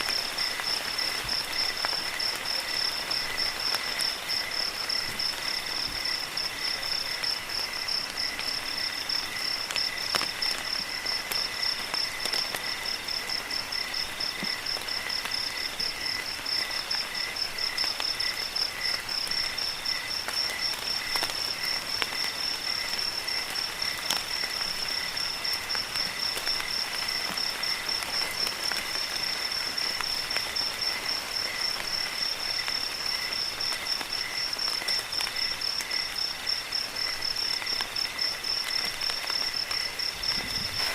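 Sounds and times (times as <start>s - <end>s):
crickets chirping: 0.0s - 40.9s
light rain hiss: 0.0s - 40.9s
slower pulsing insect call: 0.0s - 40.9s.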